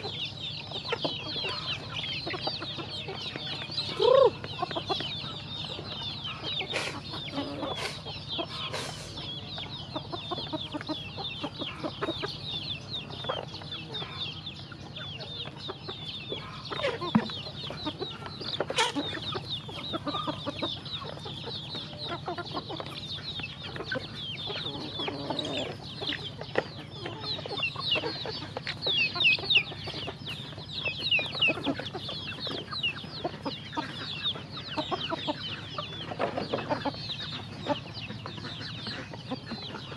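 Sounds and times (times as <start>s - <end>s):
chicks cheeping: 0.0s - 39.9s
hens clucking: 0.0s - 39.9s.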